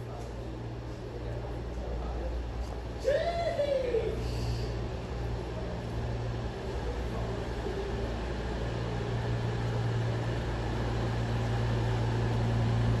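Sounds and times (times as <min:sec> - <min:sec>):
train diesel engines droning: 0:00.0 - 0:13.0.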